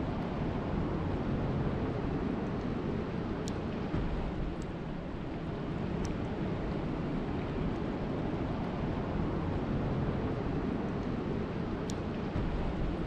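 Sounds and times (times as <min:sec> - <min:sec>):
rain falling on a lake: 0:00.0 - 0:13.0.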